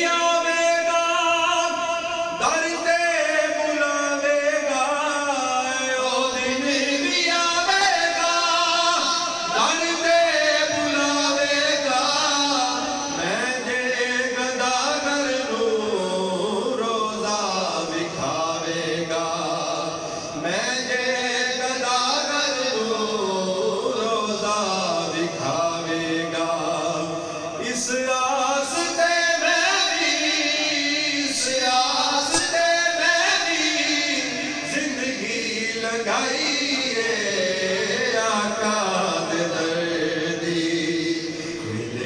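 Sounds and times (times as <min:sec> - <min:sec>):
man singing through microphone: 0:00.0 - 0:42.0.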